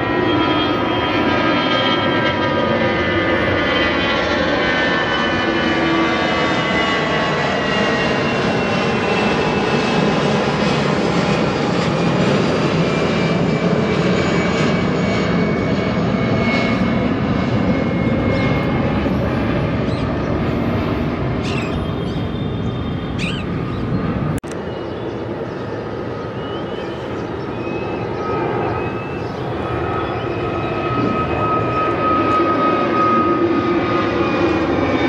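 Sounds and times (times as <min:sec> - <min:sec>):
jet engines at takeoff power: 0:00.0 - 0:35.0.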